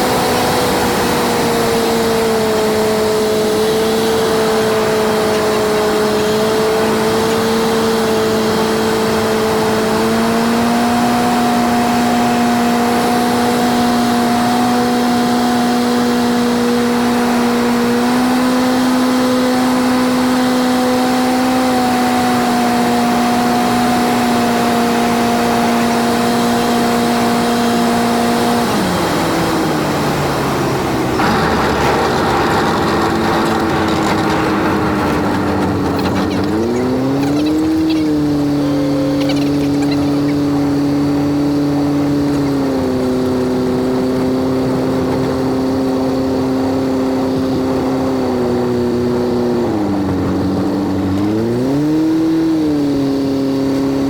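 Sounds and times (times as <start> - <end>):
piston aircraft engine droning: 0.0 - 54.0.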